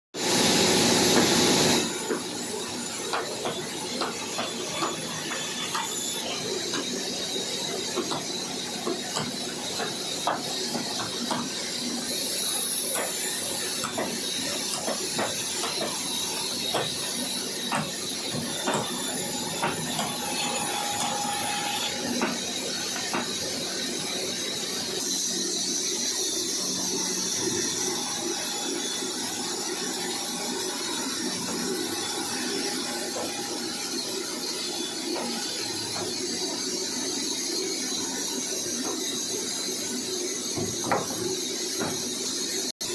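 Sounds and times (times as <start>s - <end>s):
saw cutting log with high hiss: 0.2s - 42.9s.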